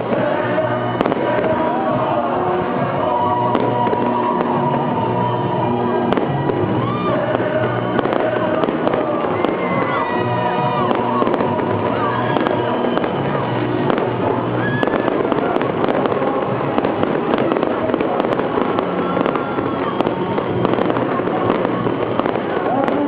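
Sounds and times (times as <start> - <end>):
fireworks popping and crackling: 0.0 - 23.0.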